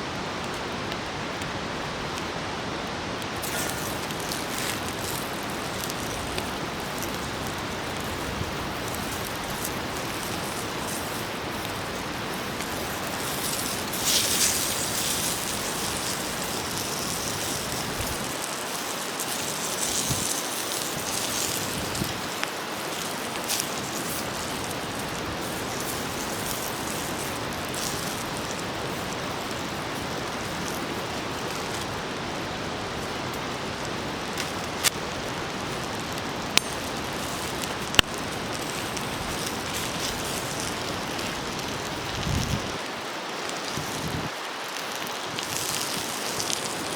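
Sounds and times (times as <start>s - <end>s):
food sizzling on a griddle: 3.0s - 46.9s
small ticks and pops: 3.2s - 32.2s, 32.8s - 46.9s.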